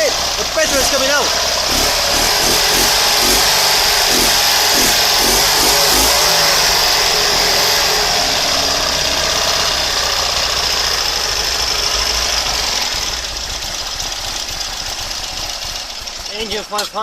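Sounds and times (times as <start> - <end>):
small car engine running: 0.0 - 17.0.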